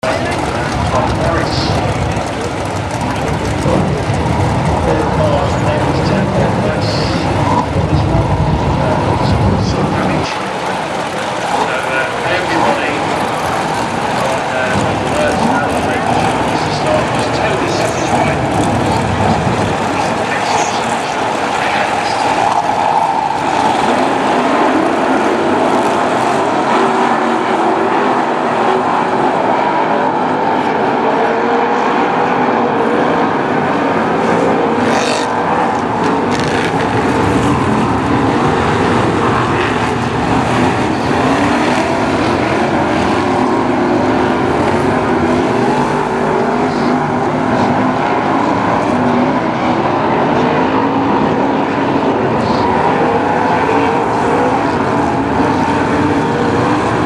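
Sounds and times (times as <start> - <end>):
stock car engines racing: 0.0 - 57.0.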